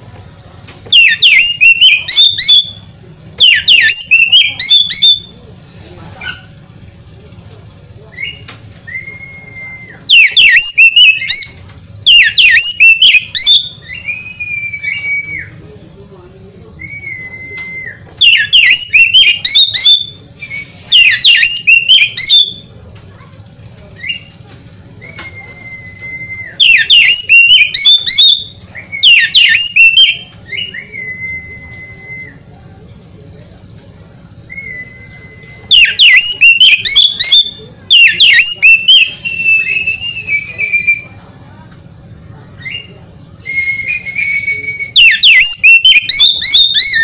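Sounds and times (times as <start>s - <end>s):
bird singing: 0.8s - 5.4s, 8.0s - 22.8s, 23.8s - 33.6s, 34.4s - 41.3s, 42.1s - 47.0s.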